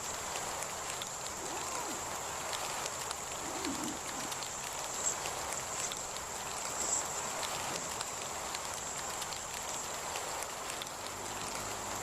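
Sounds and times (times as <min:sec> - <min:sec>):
rain with drops ticking: 0:00.0 - 0:12.0.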